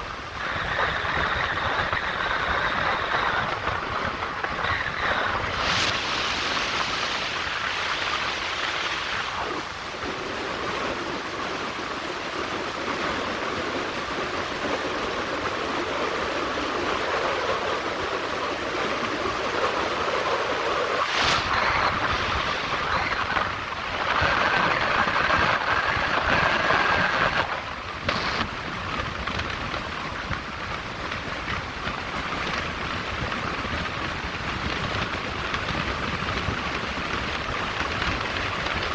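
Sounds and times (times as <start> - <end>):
car road and wind noise: 0.0 - 38.9.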